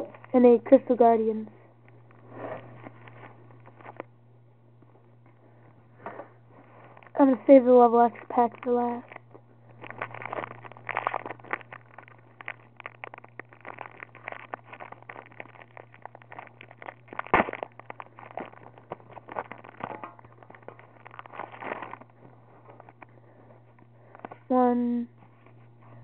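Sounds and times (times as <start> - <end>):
low steady hum: 0.0 - 26.0
foil wrapper crinkling: 1.8 - 4.1, 4.8 - 24.4.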